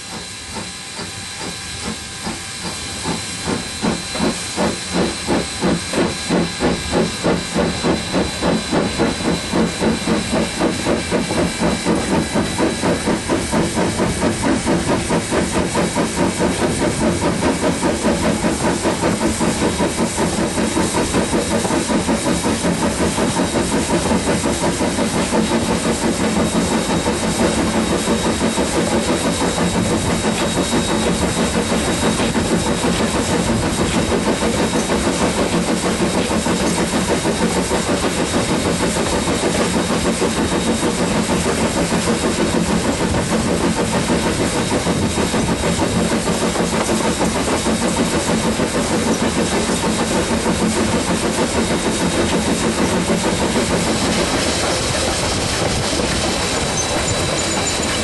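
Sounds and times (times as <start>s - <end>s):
steam locomotive running: 0.0s - 58.0s.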